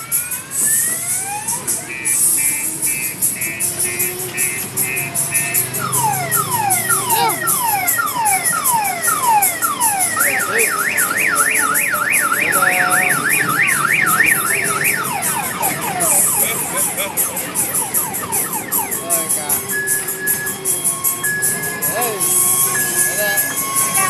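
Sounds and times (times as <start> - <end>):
electronic car alarm siren: 0.0 - 24.0
steady ticking beat: 0.0 - 24.0.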